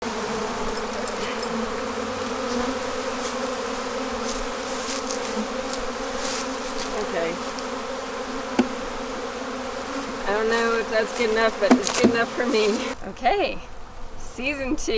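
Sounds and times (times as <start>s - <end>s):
bees buzzing: 0.0s - 14.9s.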